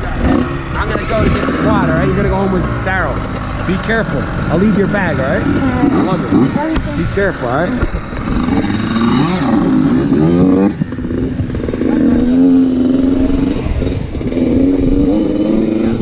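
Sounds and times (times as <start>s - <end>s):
motocross engine revving: 0.0s - 16.0s.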